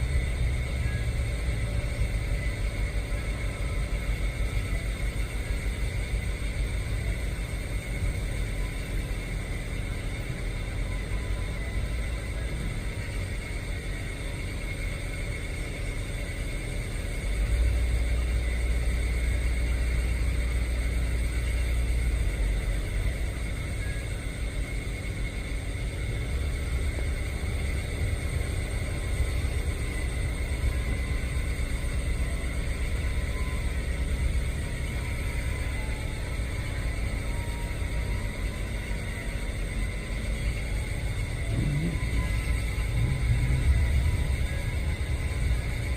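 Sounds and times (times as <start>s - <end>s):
diesel locomotive rumbling: 0.0s - 45.9s
industrial machinery whine: 0.0s - 45.9s.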